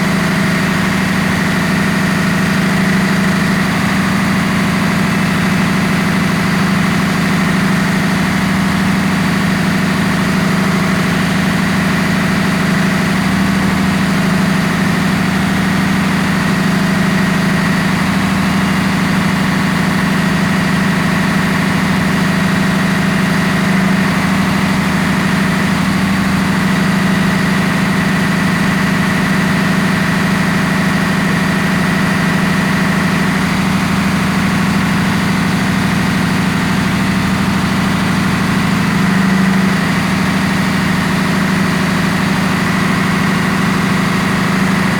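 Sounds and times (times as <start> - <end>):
engine room machinery hum: 0.0 - 44.9.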